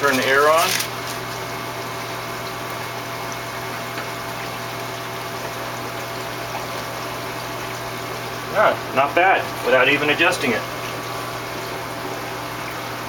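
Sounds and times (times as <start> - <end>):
low pump hum: 0.0 - 13.0
water movement: 0.0 - 13.0.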